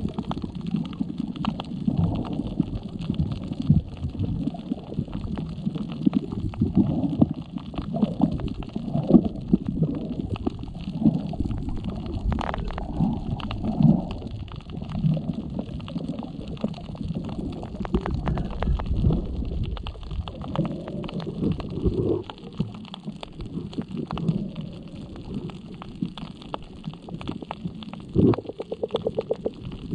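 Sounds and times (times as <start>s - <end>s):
muffled underwater rumble and sloshing: 0.0s - 29.9s.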